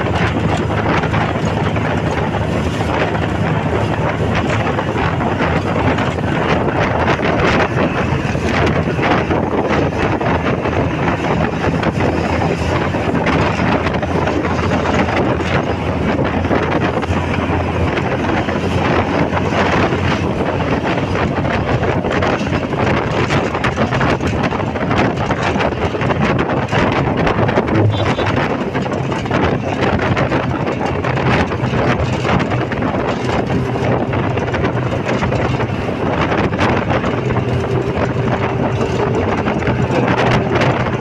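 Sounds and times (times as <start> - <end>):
bus road and engine noise: 0.0 - 41.0
wind buffeting microphone: 0.0 - 41.0.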